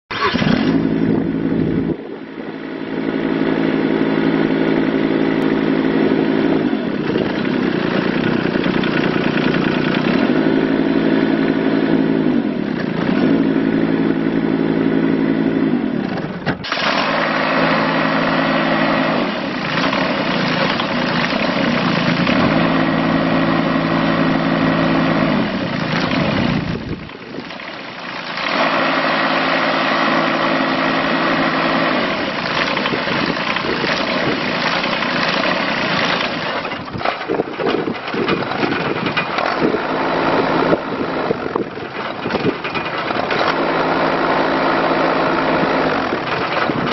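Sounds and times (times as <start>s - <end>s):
mini excavator diesel engine running: 0.1s - 46.9s.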